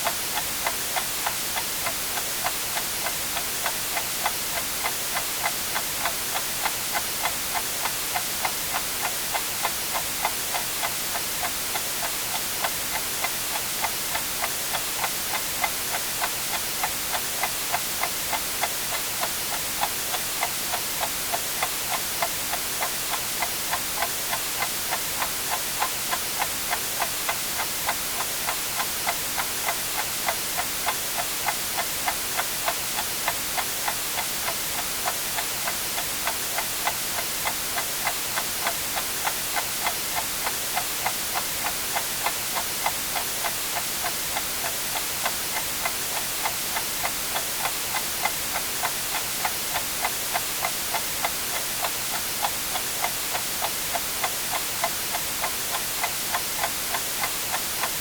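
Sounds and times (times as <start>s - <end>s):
steady white noise hiss: 0.0s - 58.0s
clock ticking: 0.1s - 58.0s.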